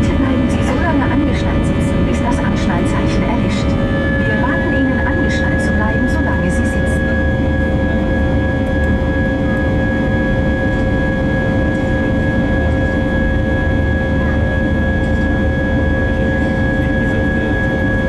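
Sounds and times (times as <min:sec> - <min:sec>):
engine whining tones: 0:00.0 - 0:18.0
jet engines low rumble: 0:00.0 - 0:18.0.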